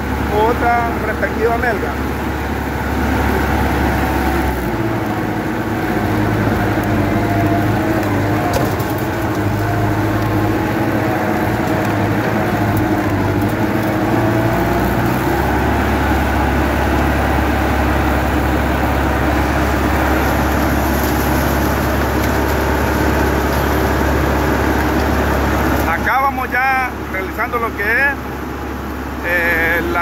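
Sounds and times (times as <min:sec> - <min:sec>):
rotavator working soil: 0:00.0 - 0:30.0
tractor engine running: 0:00.0 - 0:30.0.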